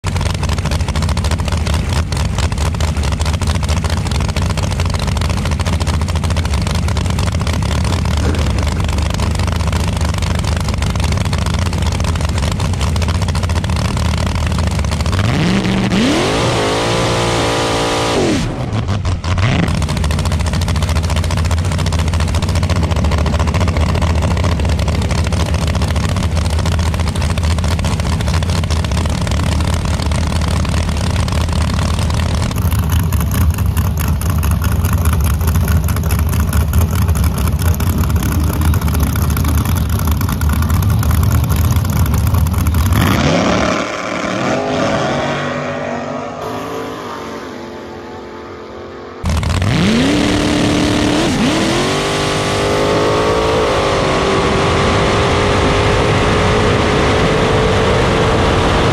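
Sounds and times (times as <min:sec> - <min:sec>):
dragster engine running loudly: 0:00.0 - 0:58.9
second dragster engine: 0:00.0 - 0:58.9.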